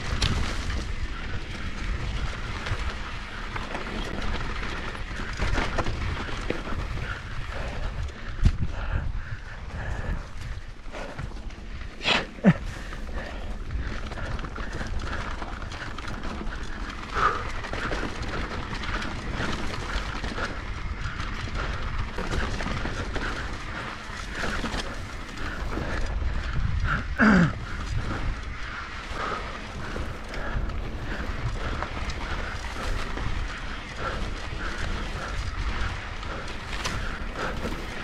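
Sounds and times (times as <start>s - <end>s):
bike rattling over rough trail: 0.0s - 38.0s
wind rumble on microphone: 0.0s - 38.0s.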